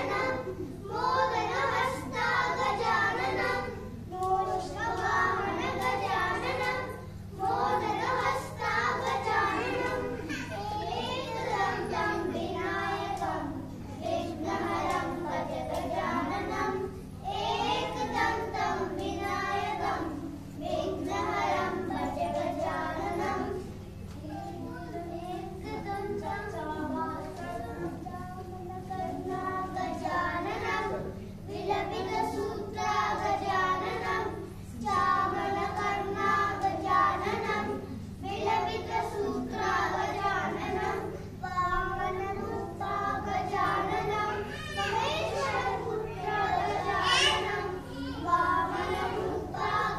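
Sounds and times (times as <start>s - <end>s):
children singing together: 0.0s - 49.9s
steady low hum: 0.0s - 49.9s.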